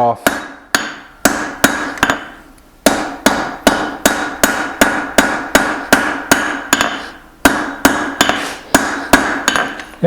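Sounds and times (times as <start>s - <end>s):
hammer striking steel on anvil: 0.0s - 10.0s.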